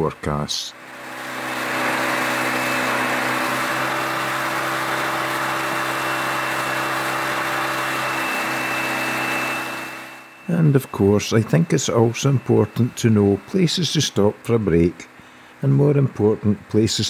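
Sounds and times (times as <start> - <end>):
outboard motor running: 0.0 - 15.6.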